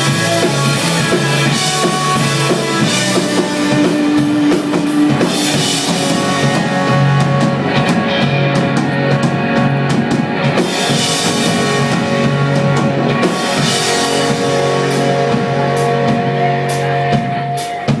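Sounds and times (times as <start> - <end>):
drum kit with cymbals: 0.0 - 18.0
held guitar and bass notes: 0.0 - 18.0.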